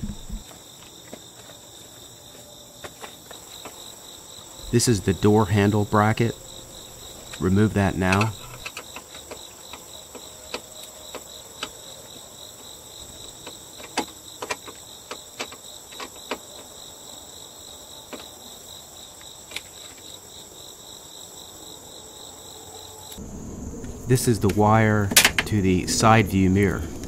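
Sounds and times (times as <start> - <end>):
insects chirping chorus: 0.0 - 27.0.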